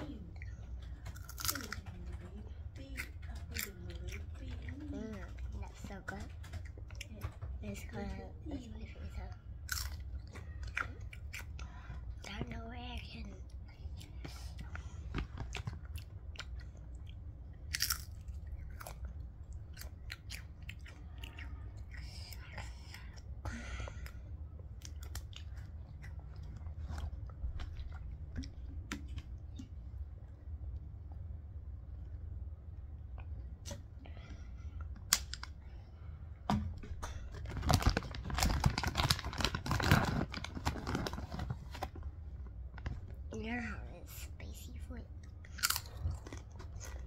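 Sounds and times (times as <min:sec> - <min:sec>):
low steady hum: 0:00.0 - 0:47.0
child chewing crisp crackers: 0:00.1 - 0:08.2, 0:08.8 - 0:30.3, 0:37.0 - 0:43.5, 0:45.2 - 0:47.0.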